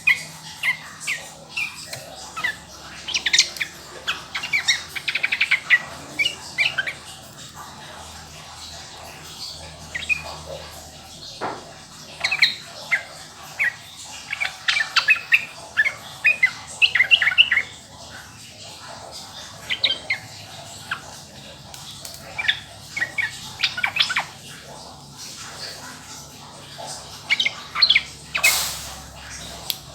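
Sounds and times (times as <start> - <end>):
bird singing bubbling notes: 0.0 - 29.9.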